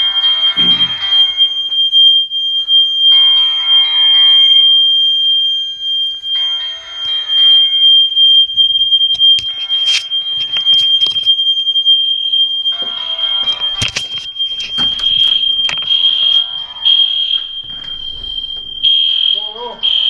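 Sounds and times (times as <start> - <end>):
fire alarm high-pitched tone: 0.0 - 20.0.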